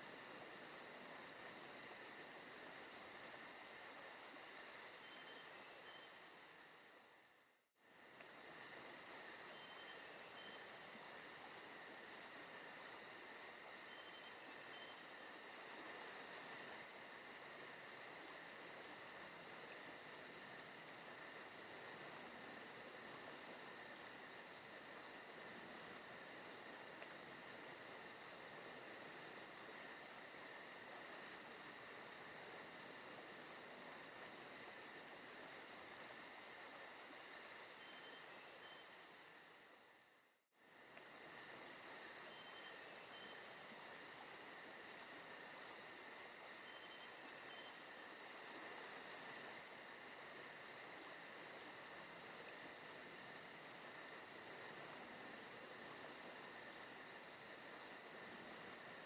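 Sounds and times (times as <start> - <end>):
chirping insects: 0.0 - 59.0.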